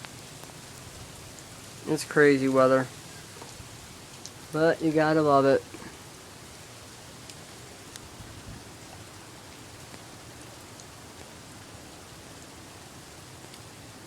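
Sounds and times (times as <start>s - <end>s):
hiss of heavy falling snow: 0.0s - 14.0s.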